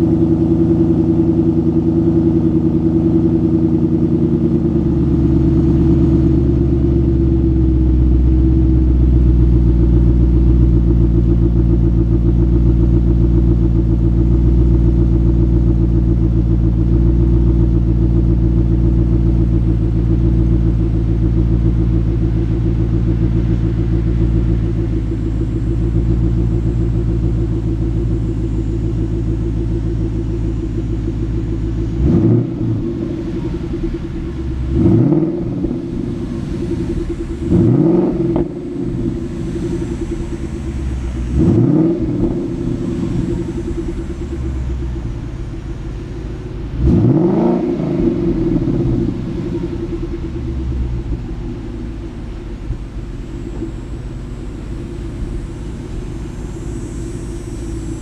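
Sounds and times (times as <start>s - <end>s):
car engine idling: 0.0s - 58.0s
engine throttle blips: 0.0s - 58.0s.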